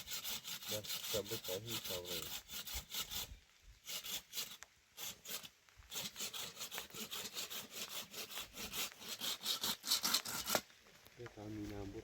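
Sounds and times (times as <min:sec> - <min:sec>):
rhythmic rasping strokes: 0:00.0 - 0:10.6.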